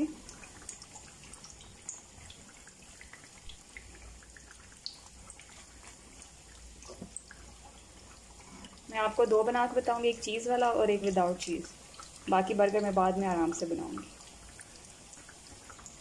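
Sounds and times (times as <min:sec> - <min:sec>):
ghee crackling on hot griddle: 0:00.0 - 0:16.0.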